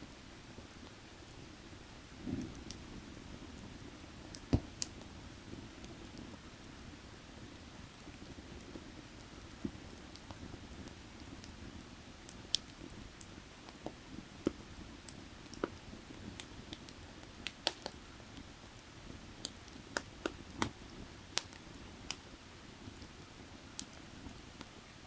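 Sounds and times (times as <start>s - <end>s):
firewood crackling and popping: 0.1s - 25.0s.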